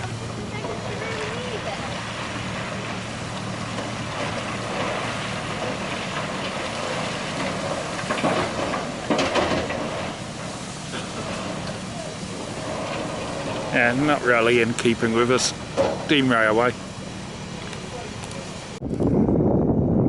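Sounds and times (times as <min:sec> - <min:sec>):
loud metallic clanks: 0:00.0 - 0:18.5
diesel engine running: 0:00.0 - 0:20.0.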